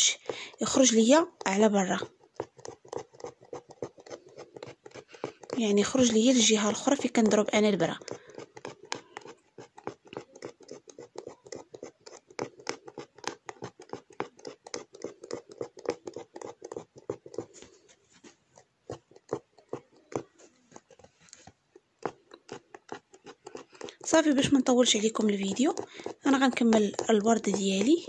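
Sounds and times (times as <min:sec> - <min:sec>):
needle piercing fabric ticks: 0:00.0 - 0:28.0.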